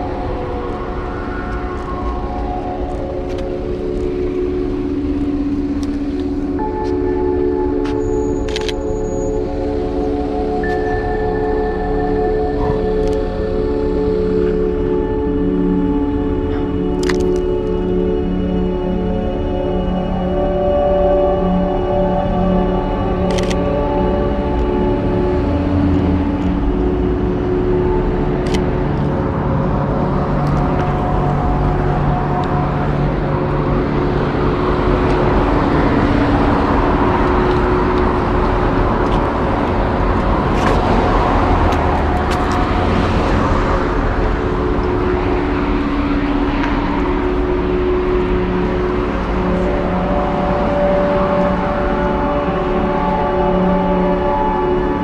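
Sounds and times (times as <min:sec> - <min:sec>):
background music held tones: 0:00.0 - 0:55.0
cars passing: 0:00.0 - 0:55.0.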